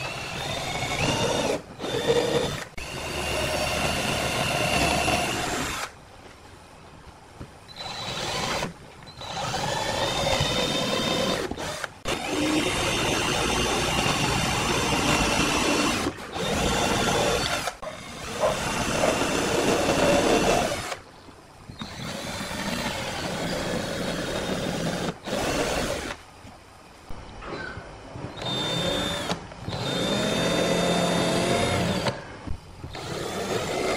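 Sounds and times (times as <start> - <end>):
cordless drill boring into wood: 0.0 - 5.9, 7.7 - 21.0, 21.7 - 26.2, 28.3 - 32.2, 32.9 - 33.9.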